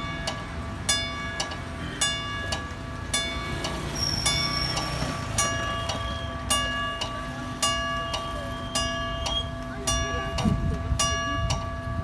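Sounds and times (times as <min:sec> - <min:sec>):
level-crossing warning bell ringing: 0:00.0 - 0:12.0
low road traffic rumble: 0:00.0 - 0:12.0.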